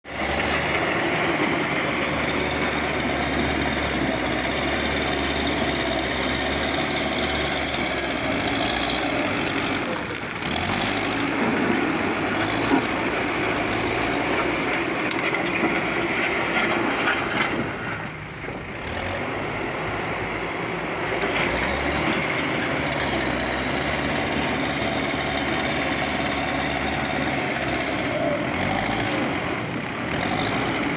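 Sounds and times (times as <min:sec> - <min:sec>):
diesel engine running under load: 0:00.0 - 0:30.9.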